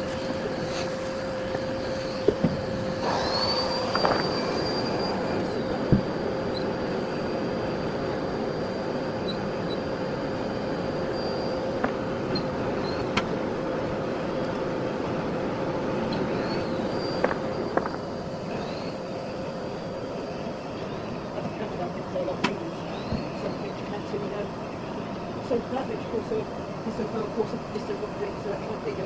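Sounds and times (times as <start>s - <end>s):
vacuum cleaner whining: 0.0s - 29.0s.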